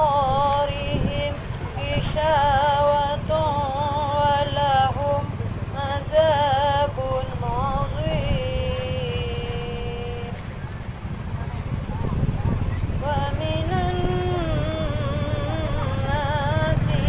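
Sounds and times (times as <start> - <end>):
high voice reciting melodically: 0.0 - 10.5, 12.8 - 17.0
steady low rumble: 0.0 - 17.0.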